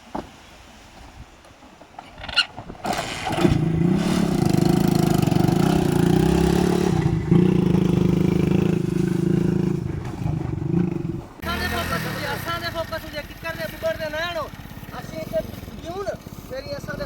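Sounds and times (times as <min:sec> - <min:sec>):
engine starting and running: 0:02.2 - 0:17.0.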